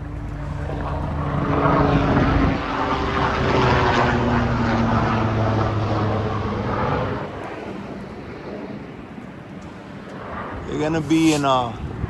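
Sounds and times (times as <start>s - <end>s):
aircraft engine droning: 0.0s - 12.0s.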